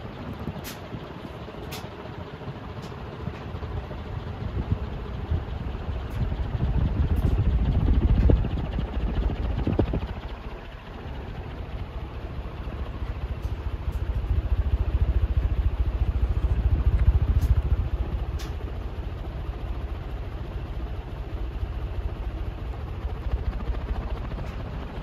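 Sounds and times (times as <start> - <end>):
ceiling fan whoosh: 0.0 - 25.0.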